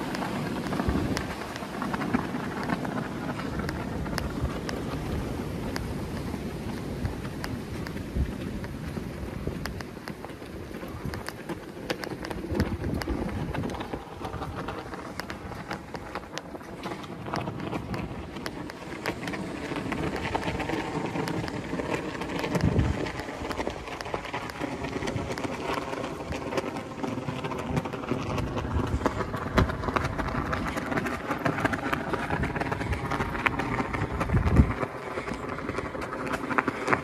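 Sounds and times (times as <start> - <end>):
footsteps on pavement: 0.0 - 37.0
wind noise on microphone: 0.0 - 37.0.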